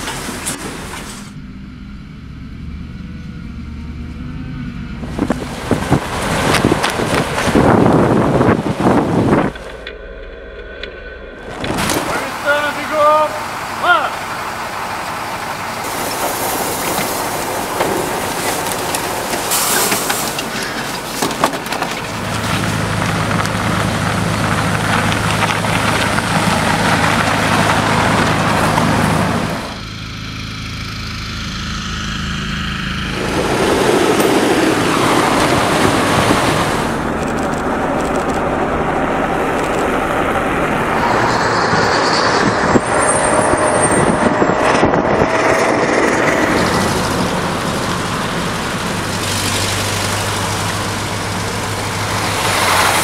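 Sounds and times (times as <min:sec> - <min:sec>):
diesel trucks driving by: 0:00.0 - 0:53.0
low engine drone: 0:00.0 - 0:53.0.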